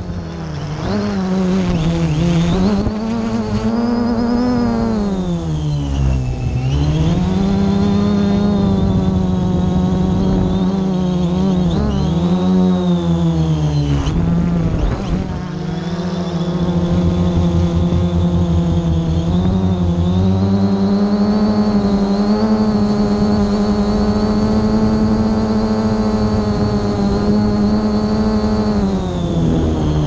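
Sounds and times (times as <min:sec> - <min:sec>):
drone propellers buzzing: 0:00.0 - 0:30.0.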